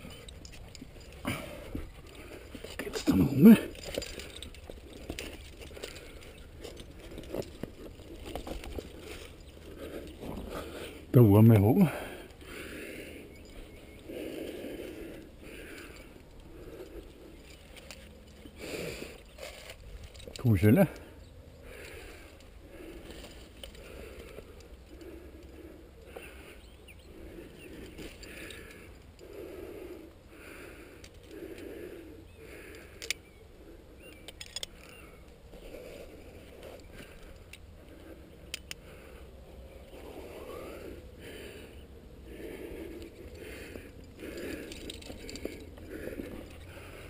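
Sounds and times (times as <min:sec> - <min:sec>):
rhythmic breathing: 0:00.0 - 0:47.0
steady low rumble: 0:00.0 - 0:47.0.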